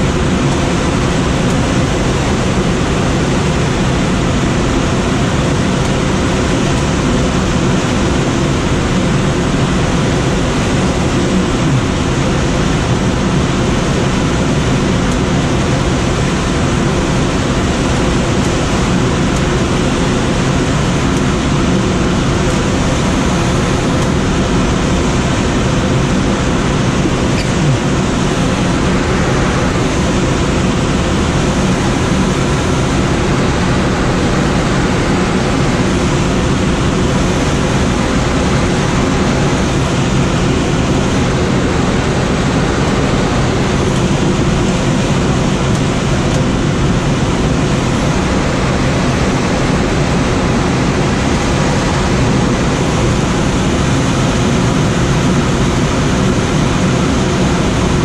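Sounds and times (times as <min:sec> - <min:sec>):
air rushing over glider: 0:00.0 - 0:58.0.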